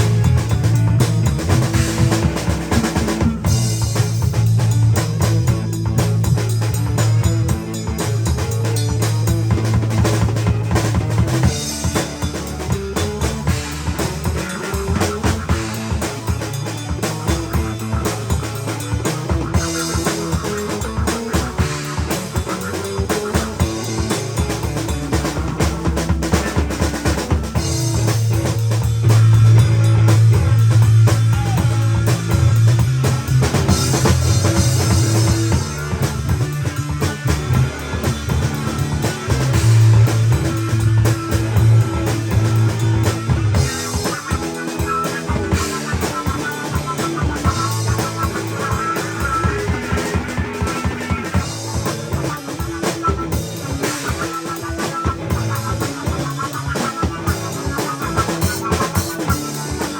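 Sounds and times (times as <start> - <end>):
prominent bass line: 0.0 - 59.9
rock band playing: 0.0 - 59.9.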